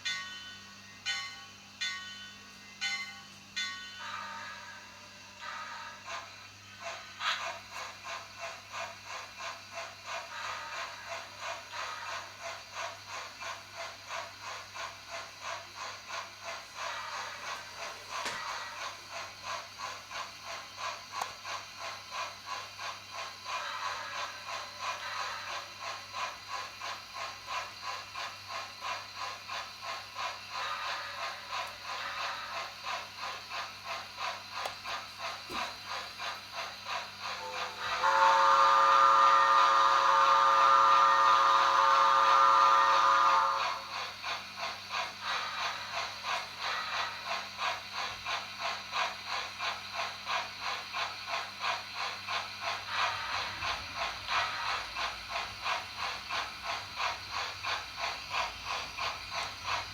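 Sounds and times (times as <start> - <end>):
model locomotive exhaust chuff: 2.8 - 59.9.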